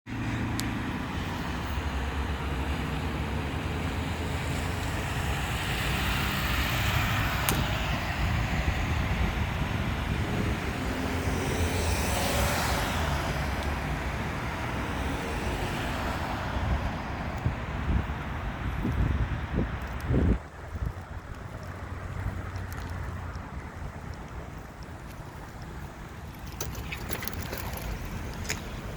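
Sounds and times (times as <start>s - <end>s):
road traffic: 0.1s - 28.9s
vehicles passing: 0.1s - 28.9s.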